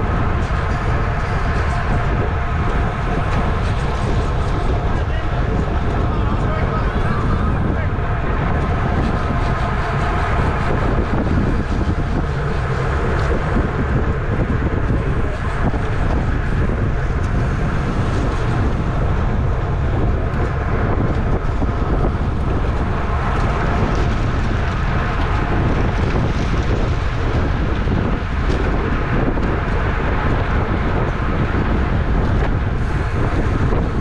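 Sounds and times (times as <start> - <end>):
road and tyre noise: 0.0 - 34.0
wind buffeting microphone: 0.0 - 34.0.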